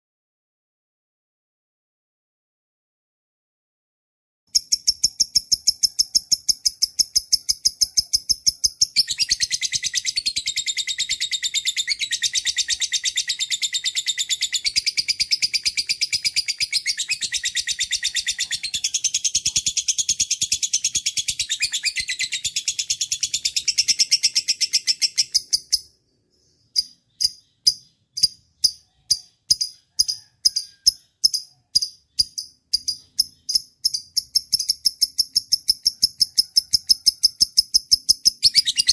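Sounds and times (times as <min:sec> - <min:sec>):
songbird chirping and trilling: 0:04.5 - 0:38.9.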